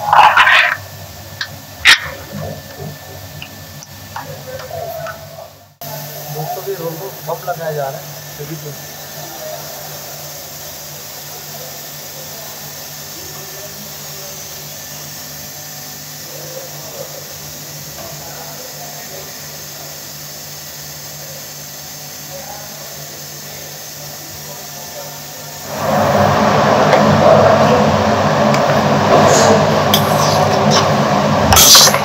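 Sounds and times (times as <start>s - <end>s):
printing press machinery hum: 0.0s - 32.0s.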